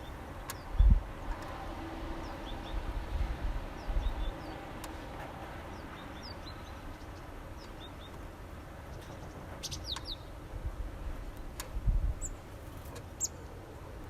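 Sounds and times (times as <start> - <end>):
small songbirds chirping: 0.0 - 10.4, 11.4 - 13.6.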